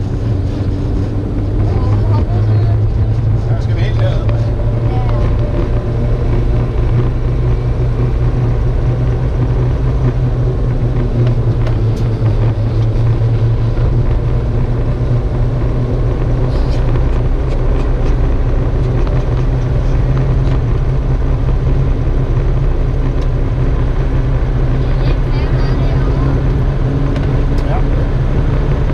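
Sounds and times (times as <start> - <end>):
car engine hum: 0.0 - 28.9
road noise: 0.0 - 28.9.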